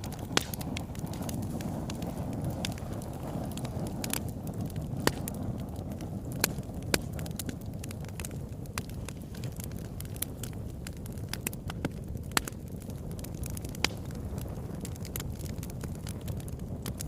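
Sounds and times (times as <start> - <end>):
fire crackling in fireplace: 0.0 - 17.0
sharp fire pops: 0.0 - 17.0.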